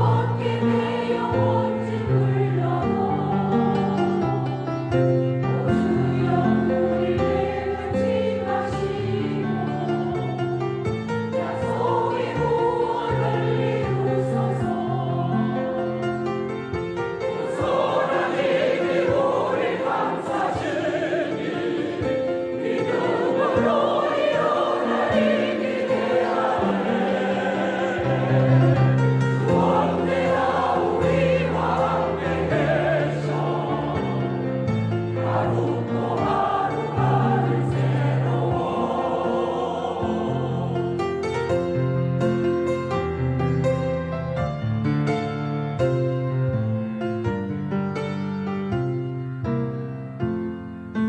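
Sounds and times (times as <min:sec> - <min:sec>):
choir singing a hymn: 0:00.0 - 0:42.7.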